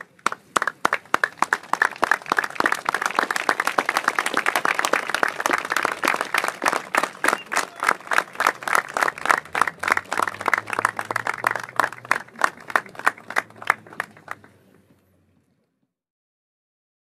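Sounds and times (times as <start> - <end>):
crowd clapping in rhythm: 0.0 - 14.6.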